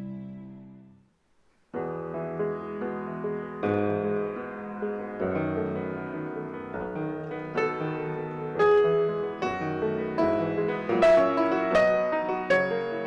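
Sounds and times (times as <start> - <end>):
solo piano piece: 1.7 - 13.0.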